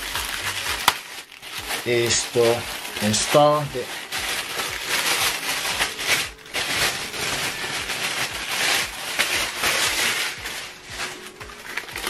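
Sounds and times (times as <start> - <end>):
paper packaging rustling: 0.0 - 12.0.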